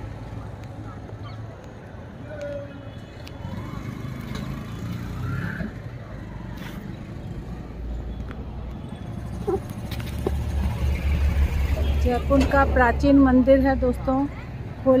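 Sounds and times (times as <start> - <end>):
motor vehicles running: 0.0 - 15.0.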